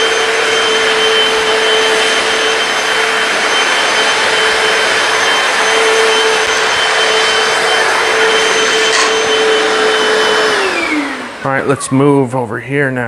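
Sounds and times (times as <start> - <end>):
suction rushing: 0.0 - 12.2
floor cleaner motor whine: 0.0 - 12.8.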